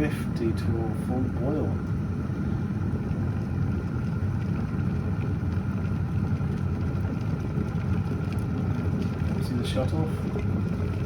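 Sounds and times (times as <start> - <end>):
electric kettle boiling: 0.0 - 11.0.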